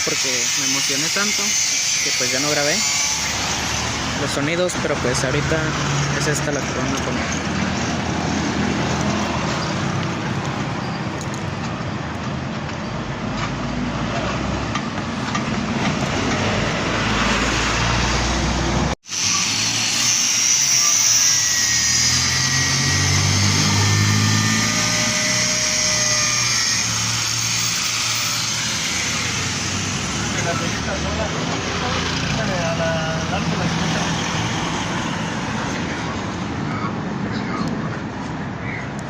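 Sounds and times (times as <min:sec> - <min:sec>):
street and shop noise: 0:00.0 - 0:39.0.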